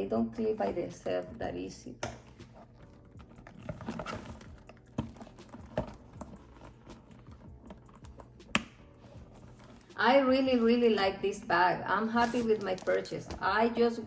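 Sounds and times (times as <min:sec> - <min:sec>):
leather bag rustling: 0:00.4 - 0:13.6.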